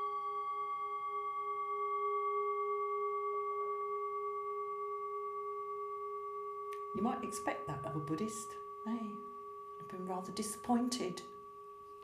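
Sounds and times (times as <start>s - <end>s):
singing bowl ringing: 0.0s - 12.0s.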